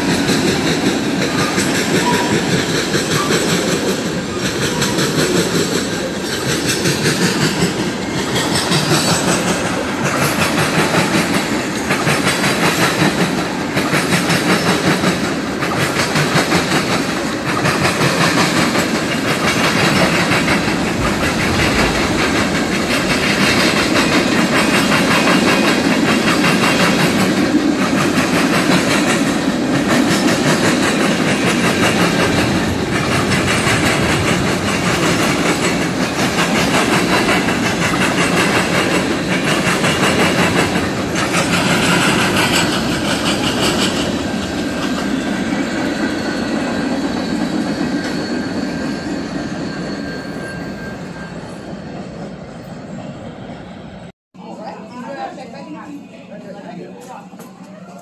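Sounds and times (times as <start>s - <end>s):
train wheels clickety-clack: 0.0s - 51.5s
freight train rumble: 0.0s - 54.1s.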